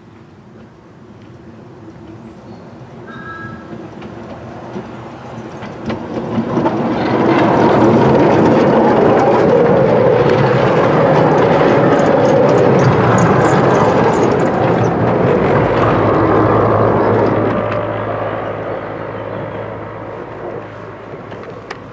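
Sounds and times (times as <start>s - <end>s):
train wheels rolling on rails: 0.0s - 21.9s.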